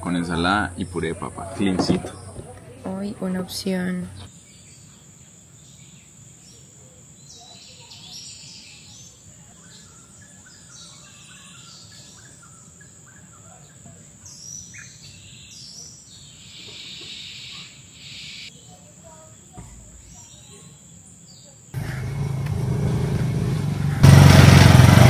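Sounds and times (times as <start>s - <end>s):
insects chirping: 0.0s - 22.7s
birds calling: 0.0s - 23.2s.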